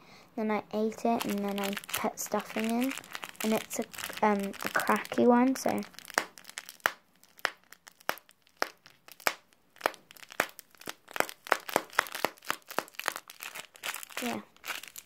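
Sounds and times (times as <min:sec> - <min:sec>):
plastic wrapper crackling: 0:00.9 - 0:15.0.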